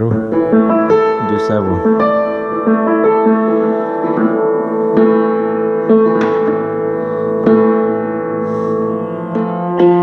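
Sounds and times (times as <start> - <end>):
piano notes ringing: 0.0 - 10.0.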